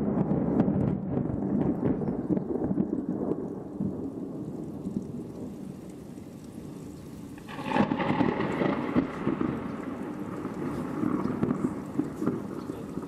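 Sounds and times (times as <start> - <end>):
falling precipitation: 0.0 - 13.0
thunder rumbling: 0.0 - 13.0.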